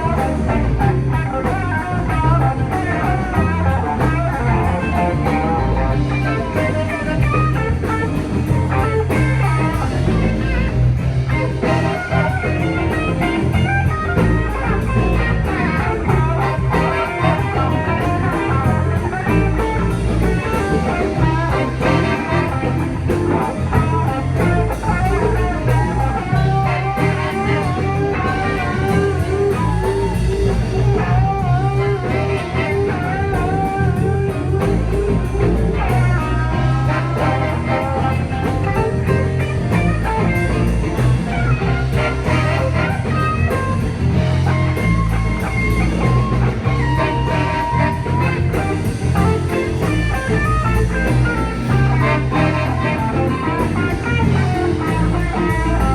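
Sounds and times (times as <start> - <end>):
bass and drum kit: 0.0 - 55.9
electric guitar lead: 0.0 - 55.9.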